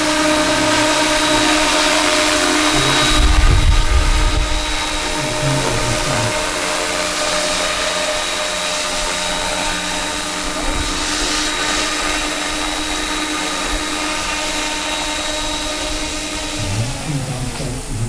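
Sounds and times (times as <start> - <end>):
model helicopter whine: 0.0 - 18.0.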